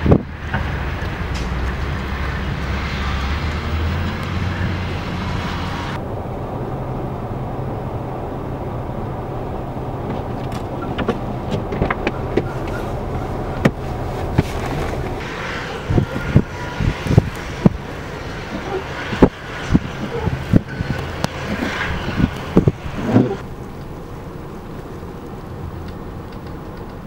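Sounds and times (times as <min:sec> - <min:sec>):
diesel engine rumbling: 0:00.0 - 0:27.0
wind: 0:00.0 - 0:27.0
car engine running: 0:04.2 - 0:27.0.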